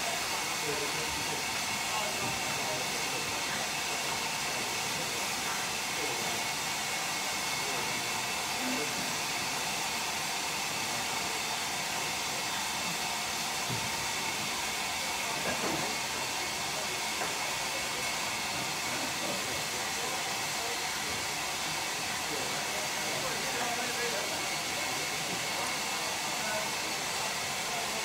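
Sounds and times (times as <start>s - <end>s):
steam locomotive hissing: 0.0s - 28.0s.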